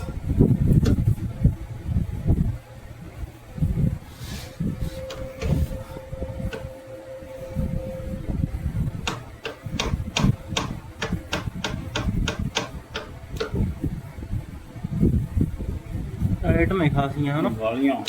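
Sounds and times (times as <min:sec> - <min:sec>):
low uneven rumble: 0:00.0 - 0:17.8
faint steady hum: 0:00.0 - 0:18.0.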